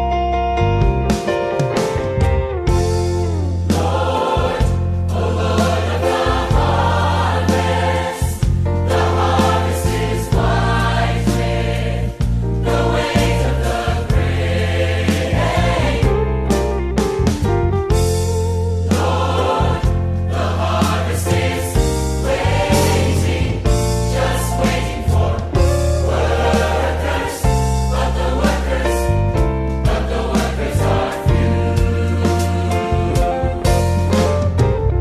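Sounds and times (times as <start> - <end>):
instrumental accompaniment: 0.0 - 35.0
choir singing a worship song: 2.7 - 16.6, 18.8 - 34.6.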